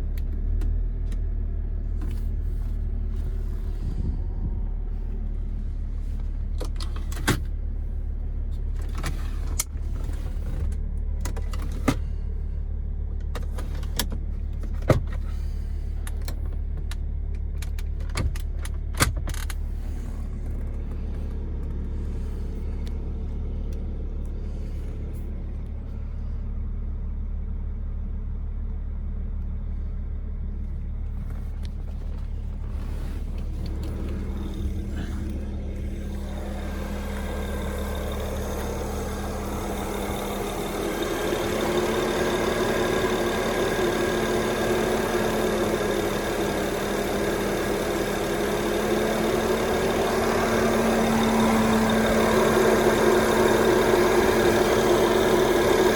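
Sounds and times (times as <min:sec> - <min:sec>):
car engine running: 0:00.0 - 0:55.9.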